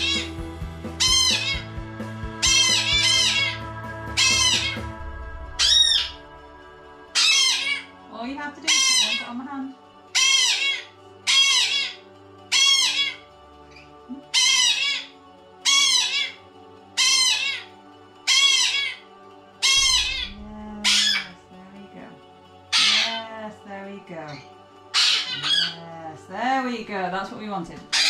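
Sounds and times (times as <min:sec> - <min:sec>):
parrot squawking: 0:00.0 - 0:06.5, 0:07.1 - 0:09.4, 0:10.1 - 0:21.4, 0:22.7 - 0:23.3, 0:24.3 - 0:25.9, 0:27.8 - 0:28.0
background music: 0:00.0 - 0:28.0.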